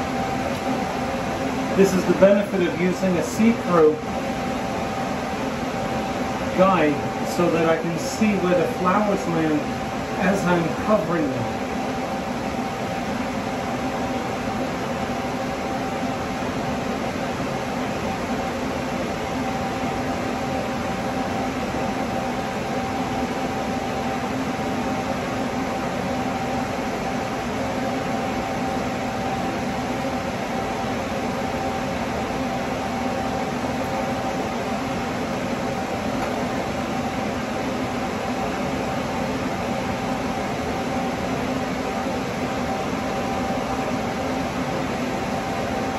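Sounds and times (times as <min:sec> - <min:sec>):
faint constant hum: 0:00.0 - 0:45.9
fan whirring: 0:00.0 - 0:45.9.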